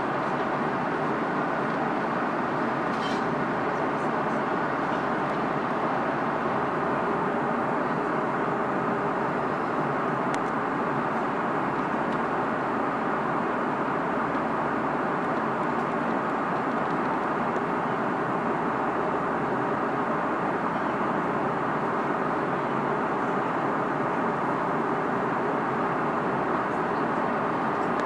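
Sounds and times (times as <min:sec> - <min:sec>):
airplane cabin engine hum: 0:00.0 - 0:28.0.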